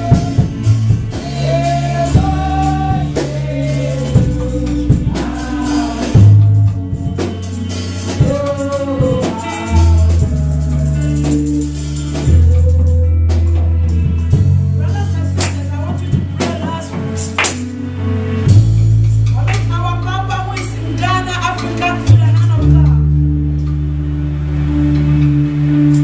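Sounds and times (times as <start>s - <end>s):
gospel singing: 0.0s - 17.3s, 19.3s - 26.0s
drums: 0.0s - 23.2s
bass line: 0.0s - 26.0s.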